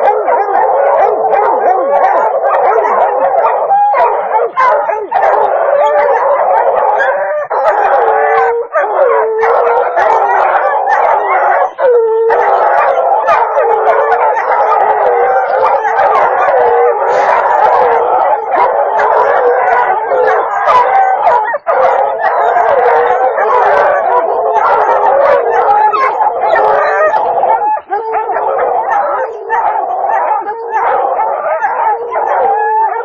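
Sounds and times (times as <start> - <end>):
hounds baying and barking: 0.0 - 33.0.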